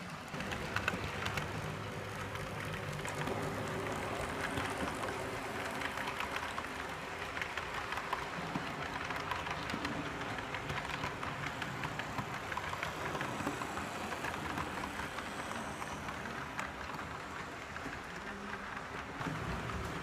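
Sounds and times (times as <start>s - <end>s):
model train wheels clicking: 0.0s - 20.0s.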